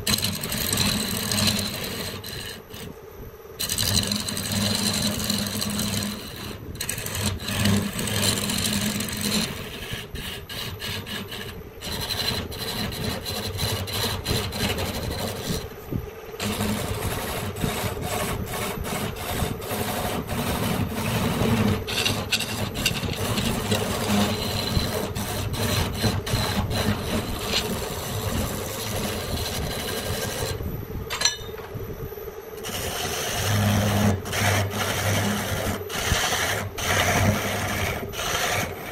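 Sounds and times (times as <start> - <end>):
abrasive tool scraping wood: 0.0 - 3.0, 3.6 - 30.6, 32.6 - 38.9.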